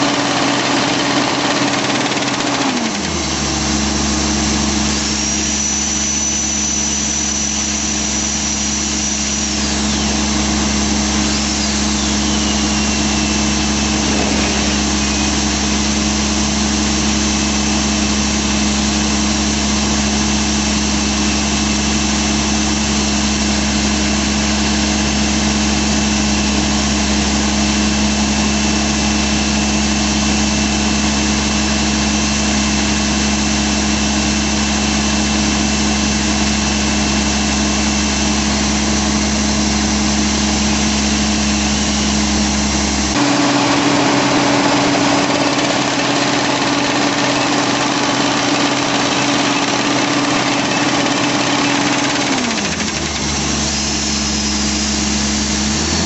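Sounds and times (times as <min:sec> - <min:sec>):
rock drill running: 0:00.0 - 0:56.0.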